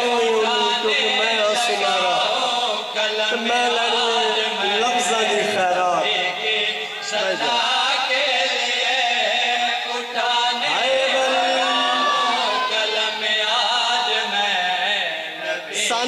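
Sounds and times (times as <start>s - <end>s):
man chanting into microphone: 0.0s - 16.0s.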